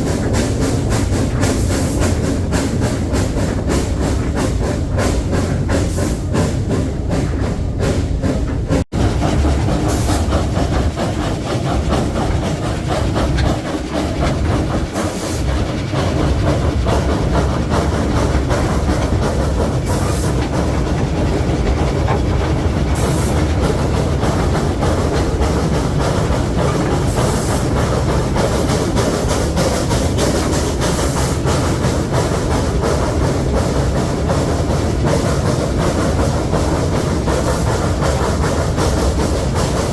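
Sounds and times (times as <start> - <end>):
train rumbling along track: 0.0 - 39.9
wheels clicking over rails: 0.0 - 39.9.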